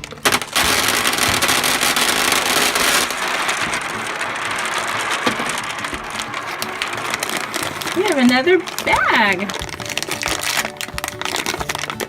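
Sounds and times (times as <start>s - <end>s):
gumballs clattering onto a surface: 0.0s - 12.0s.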